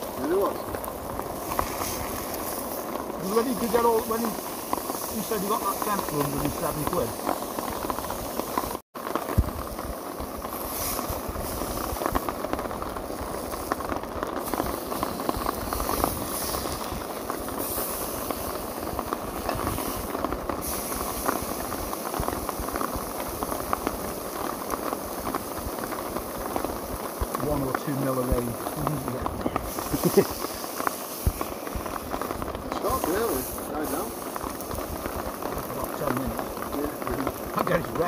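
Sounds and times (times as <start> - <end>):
steak sizzling in frying pan: 0.0 - 38.0.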